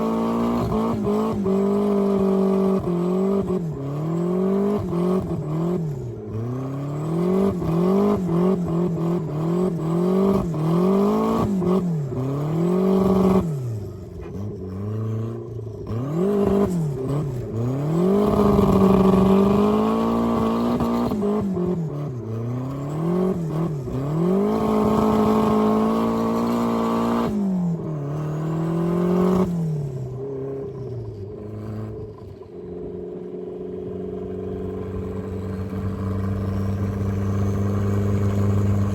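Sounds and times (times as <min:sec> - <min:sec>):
car engine revving: 0:00.0 - 0:32.8, 0:34.1 - 0:38.9.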